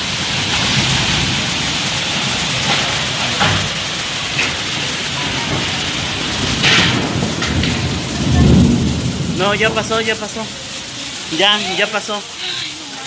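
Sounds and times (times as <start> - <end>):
strong storm wind: 0.0 - 13.0
torrential rain: 0.0 - 13.0.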